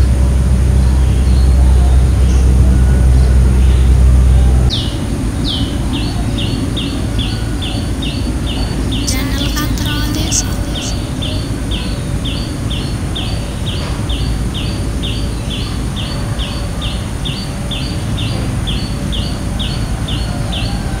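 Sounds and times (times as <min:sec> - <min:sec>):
low background rumble: 0:00.0 - 0:20.6.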